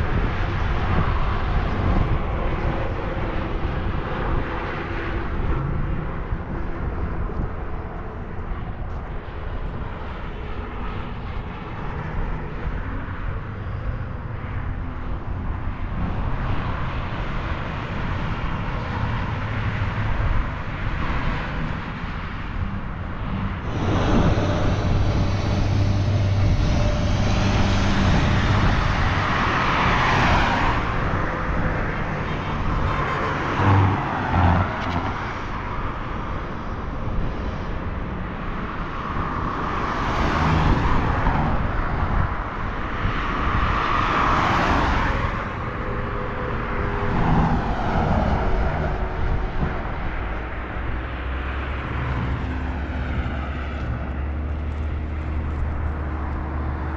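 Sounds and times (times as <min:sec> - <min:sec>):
road traffic rumble: 0:00.0 - 0:56.9
vehicles passing: 0:00.0 - 0:56.9.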